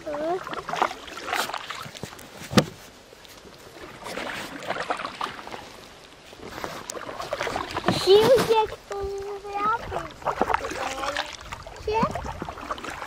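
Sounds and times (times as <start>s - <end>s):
paddle splashing and dripping water: 0.0s - 13.0s.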